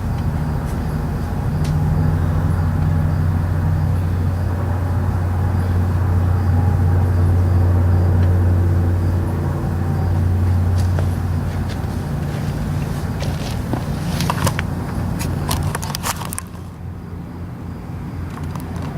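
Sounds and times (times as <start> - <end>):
loud low-pitched hum: 0.0 - 15.8.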